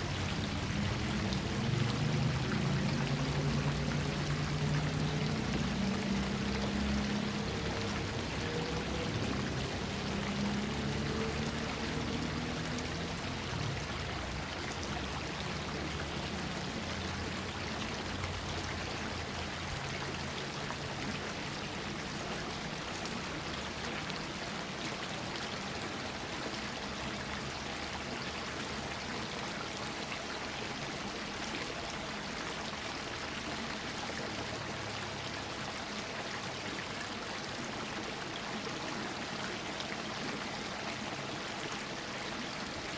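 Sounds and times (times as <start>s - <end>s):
small stream flowing: 0.0s - 42.9s.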